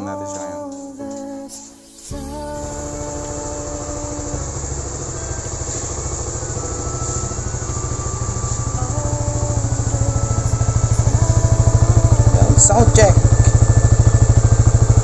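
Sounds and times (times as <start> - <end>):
motorcycle engine idling: 2.2 - 15.0.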